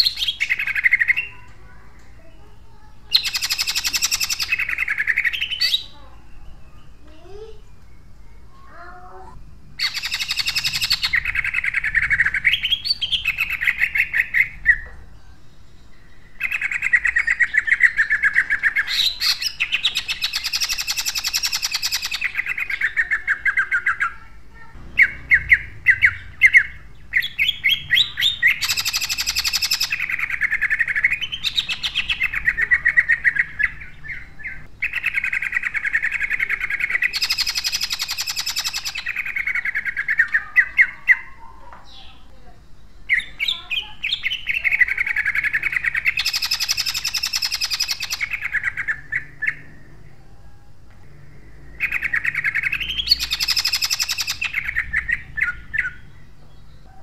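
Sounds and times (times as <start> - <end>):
bird singing fast rattling notes: 0.0 - 8.5, 9.4 - 14.9, 15.5 - 50.0, 51.1 - 56.7.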